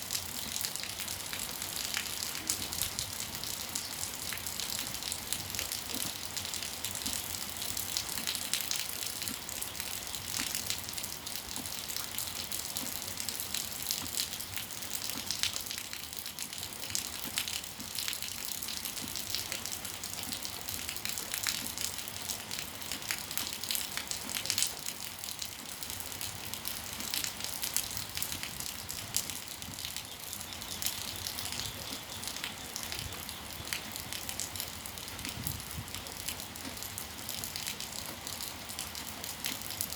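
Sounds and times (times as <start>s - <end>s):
steady rain on hard surfaces: 0.0s - 39.9s.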